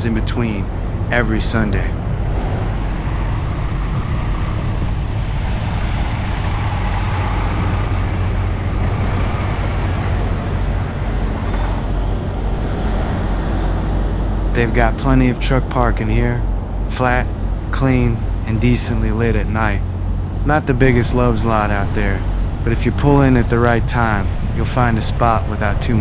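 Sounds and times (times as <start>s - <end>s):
road vehicle low rumble: 0.0s - 26.0s.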